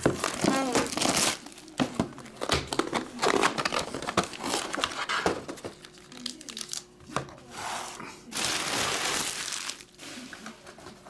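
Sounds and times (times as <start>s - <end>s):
plastic wrapping crinkling: 0.0s - 7.0s, 8.3s - 10.4s.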